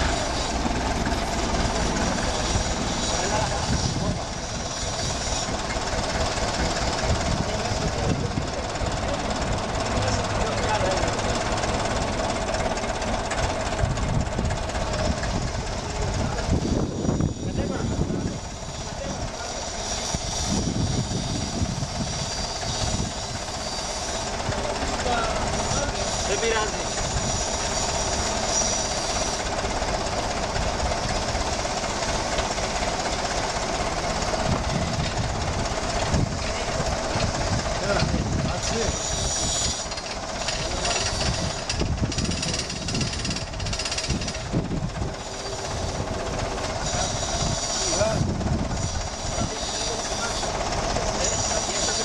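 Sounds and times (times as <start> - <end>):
forklift engine running: 0.0 - 52.0.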